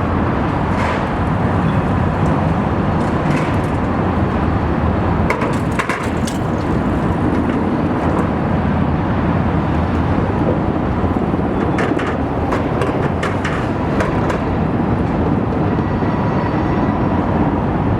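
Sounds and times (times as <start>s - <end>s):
sharp clacks of train wheels: 0.0s - 8.7s, 9.5s - 16.3s
train rumbling across steel bridge: 0.0s - 17.9s.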